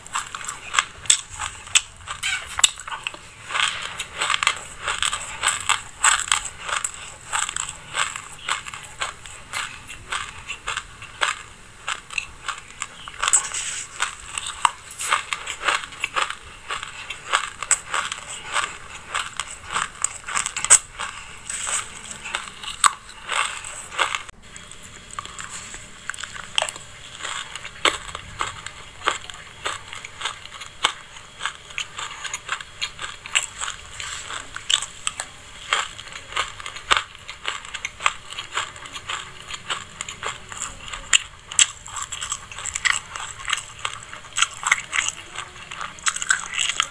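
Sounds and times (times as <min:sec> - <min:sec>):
crunchy chewing of seeds: 0:00.0 - 0:46.9.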